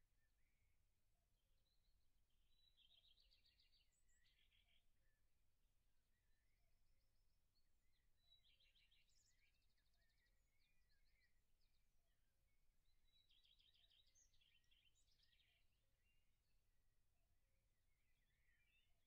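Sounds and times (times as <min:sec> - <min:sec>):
faint songbirds singing: 0:00.0 - 0:19.0.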